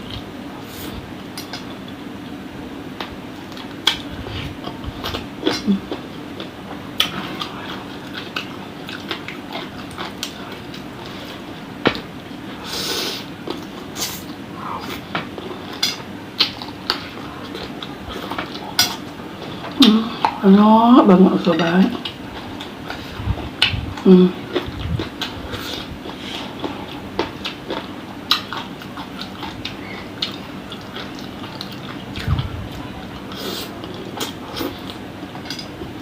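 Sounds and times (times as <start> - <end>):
faint steady hum: 0.0 - 36.0
chewing food: 3.0 - 12.6, 13.4 - 20.4, 21.6 - 36.0.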